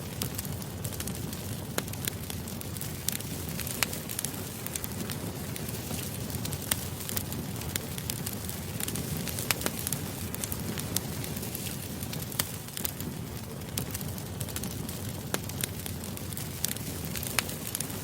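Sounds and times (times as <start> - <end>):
wood fire crackling: 0.0 - 18.0
sharp pops and snaps: 0.1 - 13.1, 13.7 - 18.0.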